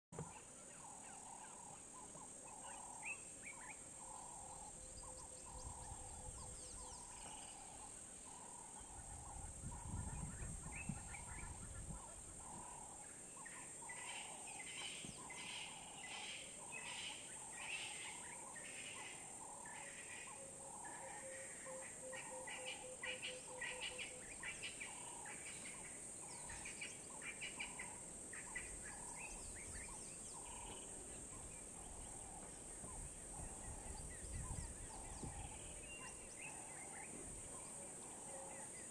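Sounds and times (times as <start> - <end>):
birds chirping: 0.2 - 38.9.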